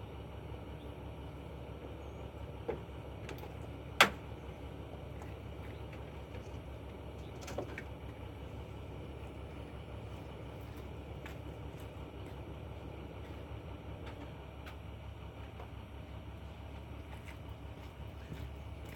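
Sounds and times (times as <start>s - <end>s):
steady low rumble: 0.0s - 18.9s.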